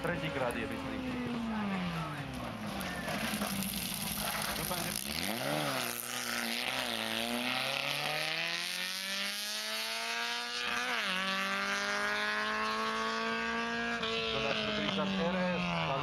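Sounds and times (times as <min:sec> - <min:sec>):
racing car engine accelerating: 0:00.0 - 0:16.0.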